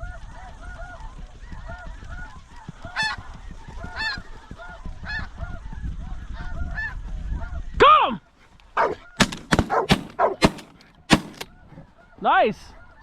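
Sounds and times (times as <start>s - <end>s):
geese honking: 0.0s - 7.6s, 8.8s - 13.0s.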